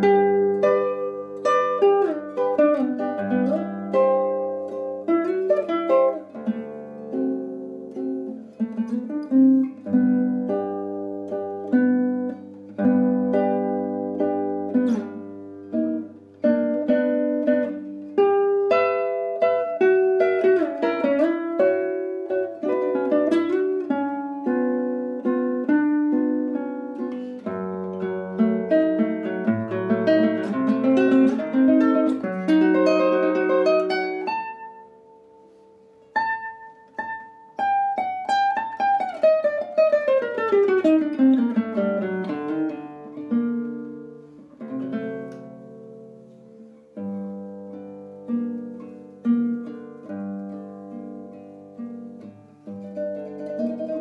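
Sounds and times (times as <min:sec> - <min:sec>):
classical guitar fingerpicking: 0:00.0 - 0:54.0.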